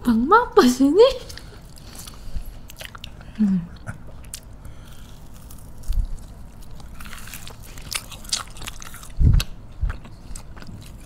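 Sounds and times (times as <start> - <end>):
crunchy chewing: 1.3 - 11.0.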